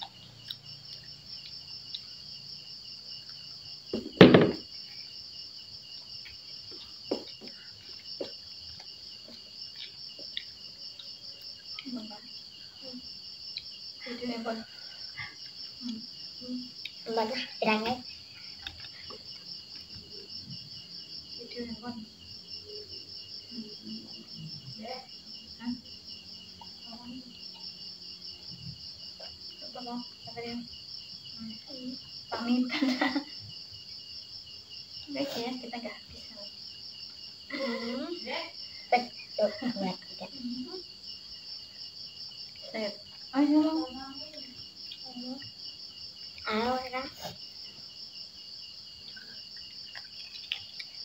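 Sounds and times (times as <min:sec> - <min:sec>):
crickets chirping: 0:00.0 - 0:51.0
insects trilling: 0:00.0 - 0:51.0.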